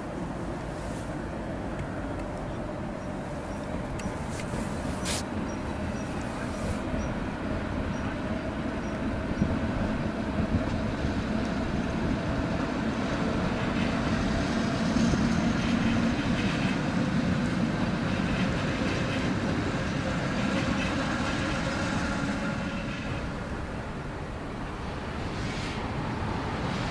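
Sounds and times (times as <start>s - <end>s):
steady train hum: 0.0s - 26.9s
train wheels rumbling over tracks: 0.0s - 26.9s.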